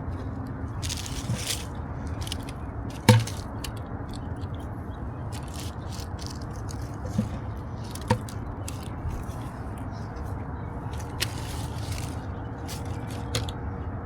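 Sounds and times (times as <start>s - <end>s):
litter crackling and scraping: 0.0s - 13.7s.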